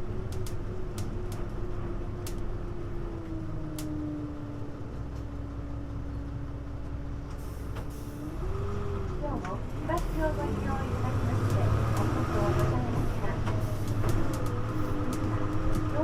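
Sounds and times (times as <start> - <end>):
bus drivetrain rumble and whine: 0.0 - 16.0.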